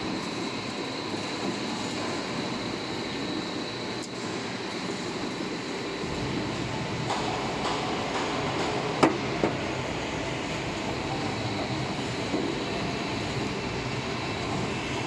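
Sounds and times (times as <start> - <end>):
roll forming machine running: 0.0 - 15.0.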